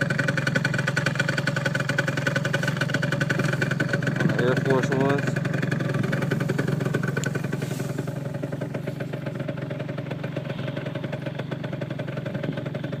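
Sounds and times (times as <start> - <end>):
scooter engine buzzing: 0.0 - 13.0.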